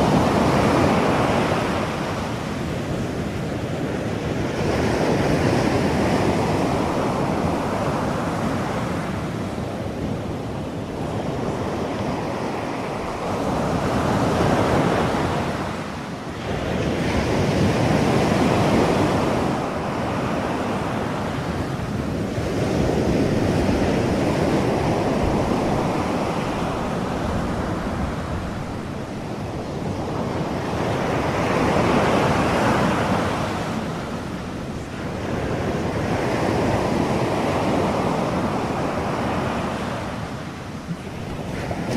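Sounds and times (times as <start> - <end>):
ocean surf rushing: 0.0 - 41.9.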